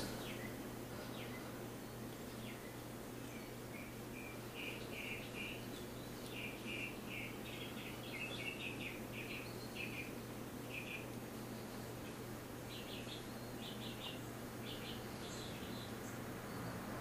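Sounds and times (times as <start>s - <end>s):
small bird chirping: 0.0s - 16.9s
faint steady hum: 0.0s - 17.0s.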